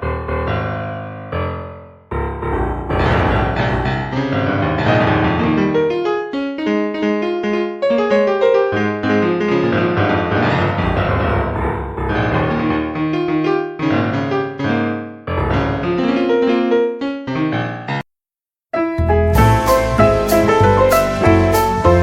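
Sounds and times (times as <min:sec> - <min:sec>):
piano music: 0:00.0 - 0:18.1, 0:18.7 - 0:22.0.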